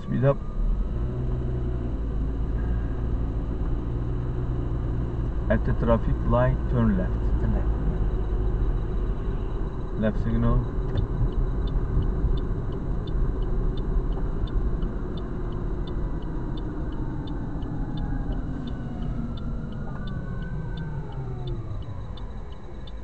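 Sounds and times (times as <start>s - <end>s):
faint whine sliding in pitch: 0.0s - 23.0s
road and engine rumble: 0.0s - 23.0s
turn signal ticking: 0.0s - 23.0s.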